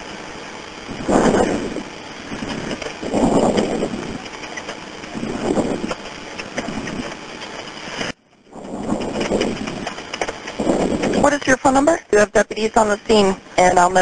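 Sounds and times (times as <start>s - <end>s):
muffled indistinct swells: 0.0s - 14.0s
telephone line hiss: 0.0s - 14.0s.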